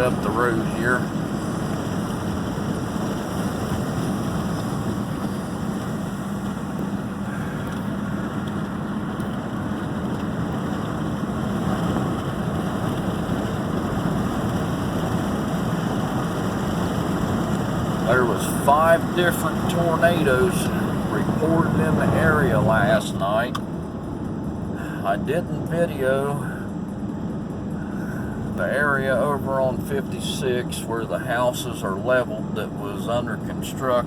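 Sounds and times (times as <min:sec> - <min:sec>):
car engine hum: 0:00.0 - 0:34.0
tyre and road noise: 0:00.0 - 0:34.0.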